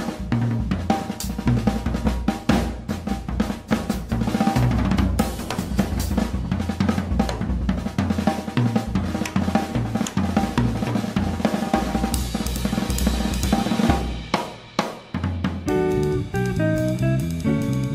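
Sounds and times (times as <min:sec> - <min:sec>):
drum kit solo: 0:00.0 - 0:17.9.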